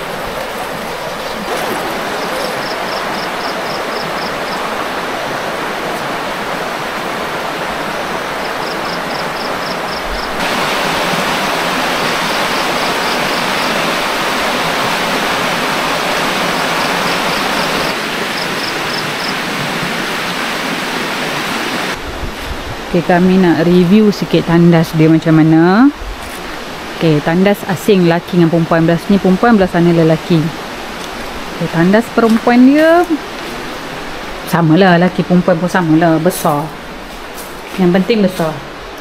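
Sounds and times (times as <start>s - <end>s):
rushing river water: 0.0s - 39.0s.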